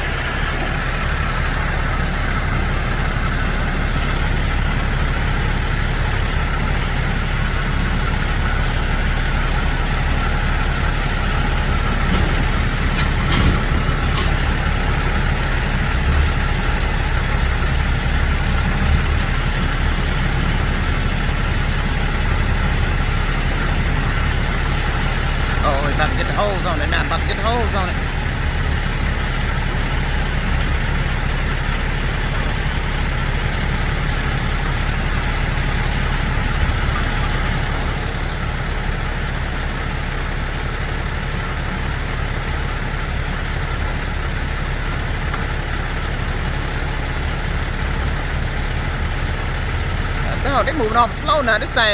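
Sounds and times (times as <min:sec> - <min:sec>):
diesel truck engine idling: 0:00.0 - 0:51.9.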